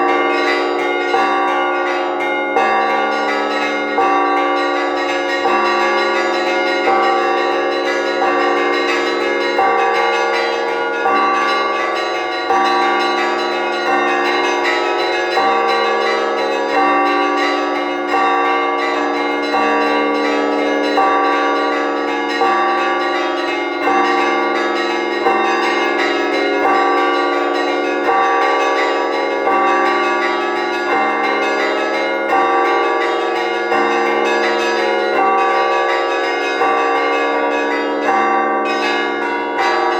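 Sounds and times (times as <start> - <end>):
church bells pealing: 0.0 - 39.9
small bells ringing: 0.0 - 39.9.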